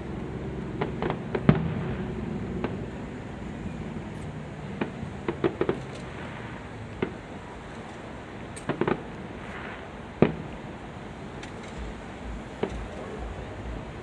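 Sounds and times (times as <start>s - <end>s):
steady background noise: 0.0s - 14.0s
distant fireworks bangs and pops: 0.2s - 13.9s.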